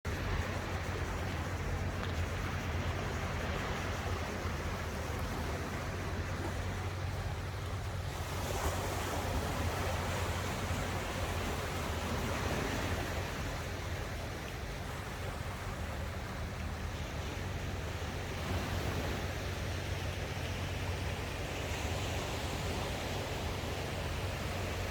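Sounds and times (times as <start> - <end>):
sea waves washing onto shore: 0.1 - 24.9.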